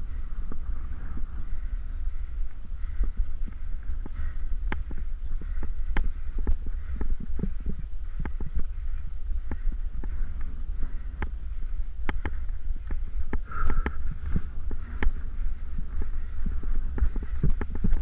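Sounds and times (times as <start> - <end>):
wind rumble on microphone: 0.0 - 18.0
bike rattling and clicking: 0.1 - 18.0.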